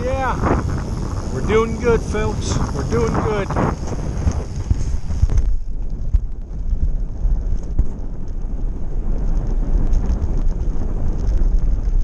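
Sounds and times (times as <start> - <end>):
tyres rolling over gravel: 0.0 - 12.0
wind buffeting microphone: 0.0 - 12.0.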